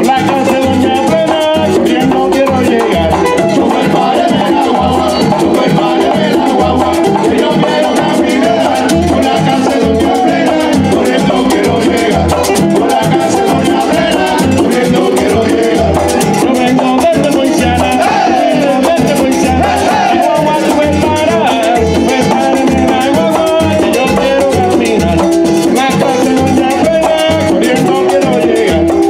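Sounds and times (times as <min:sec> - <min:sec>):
frame drums beating a rhythm: 0:00.0 - 0:29.0
voices singing: 0:00.0 - 0:29.0.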